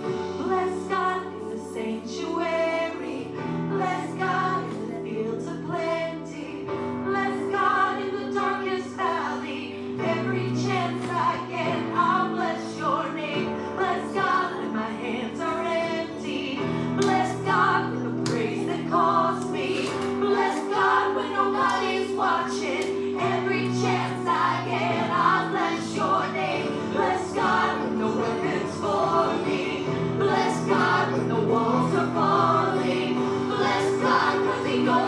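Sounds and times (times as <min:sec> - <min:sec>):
voices singing a hymn: 0:00.0 - 0:35.0.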